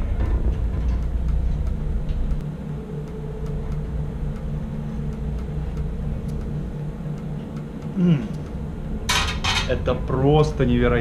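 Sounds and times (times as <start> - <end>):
held low tones: 0.0 - 11.0
low mechanical hum: 0.0 - 11.0.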